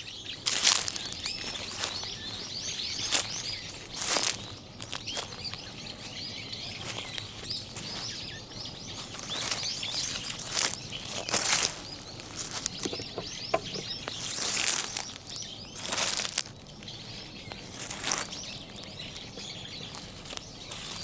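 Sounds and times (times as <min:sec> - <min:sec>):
small birds chirping: 0:00.0 - 0:21.0
footsteps on fallen leaves: 0:00.1 - 0:21.0.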